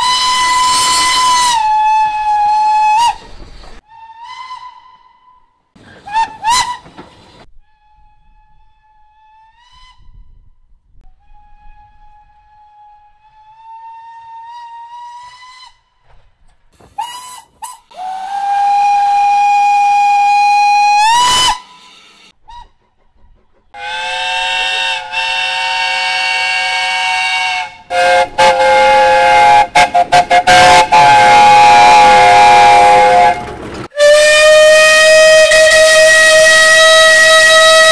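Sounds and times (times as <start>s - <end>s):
train whistle blasts: 0.0s - 3.2s, 3.8s - 6.9s, 11.1s - 15.9s, 17.0s - 22.8s, 23.8s - 37.9s.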